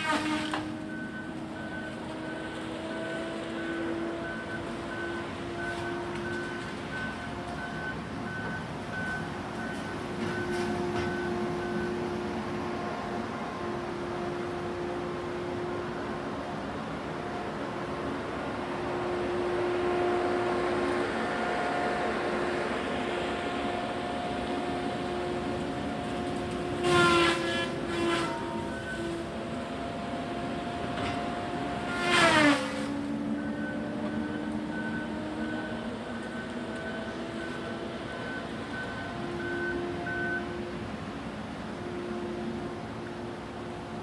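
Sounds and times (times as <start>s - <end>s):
logging machinery engine running: 0.0s - 44.0s.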